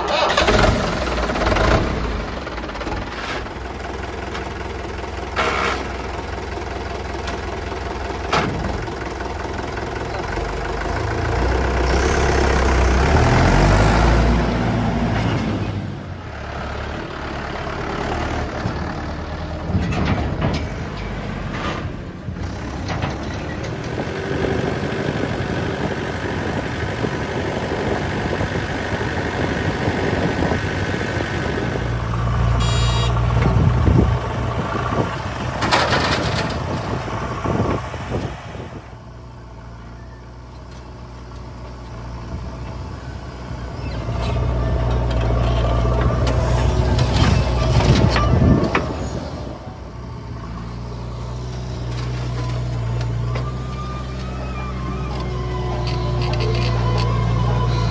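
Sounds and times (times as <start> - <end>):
diesel tractor engines revving: 0.0 - 57.9.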